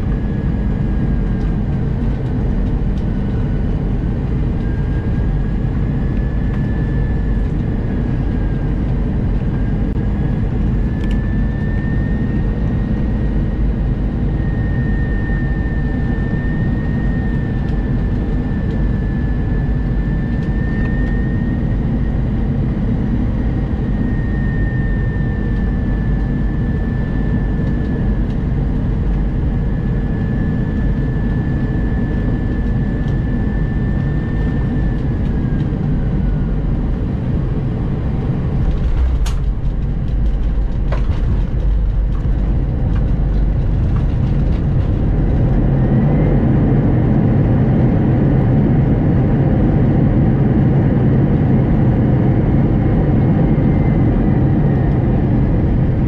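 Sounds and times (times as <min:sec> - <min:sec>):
aircraft engine and airflow rumble: 0:00.0 - 0:56.0.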